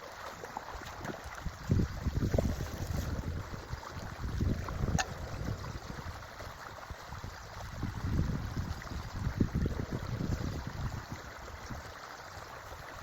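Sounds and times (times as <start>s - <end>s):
creek flowing: 0.0s - 13.0s
wind buffeting microphone: 0.9s - 12.0s.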